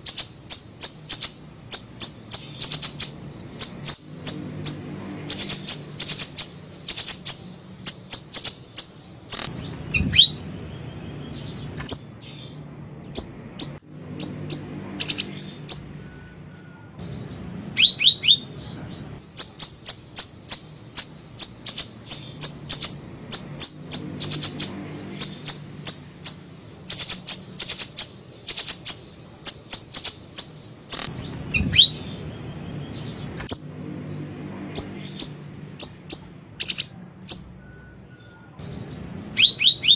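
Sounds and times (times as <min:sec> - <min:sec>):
small bird singing high chirps: 0:00.0 - 0:39.9.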